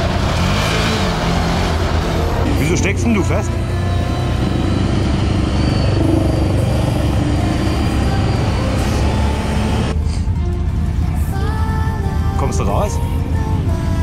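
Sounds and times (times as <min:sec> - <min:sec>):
quad engine rumbling: 0:00.0 - 0:12.4.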